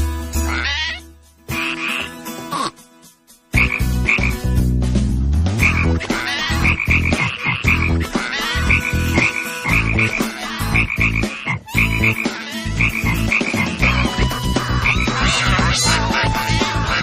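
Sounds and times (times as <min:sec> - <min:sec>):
frog croaking: 0:00.5 - 0:02.7, 0:03.6 - 0:04.4, 0:05.6 - 0:16.2.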